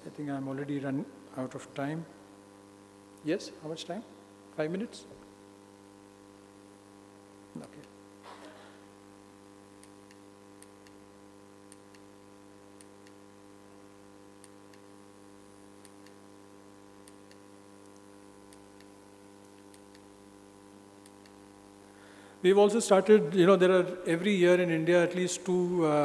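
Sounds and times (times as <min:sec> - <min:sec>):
mains hum: 0:00.0 - 0:26.0.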